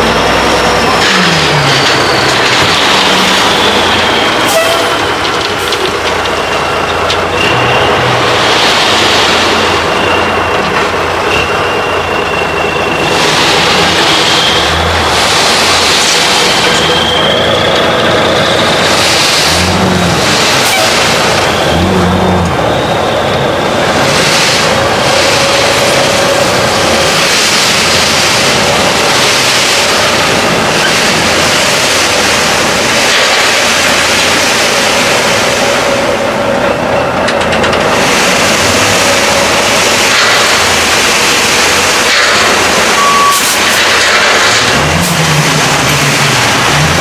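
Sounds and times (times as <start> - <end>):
dump truck engine running: 0.0 - 47.0
high hydraulic whine: 0.0 - 47.0.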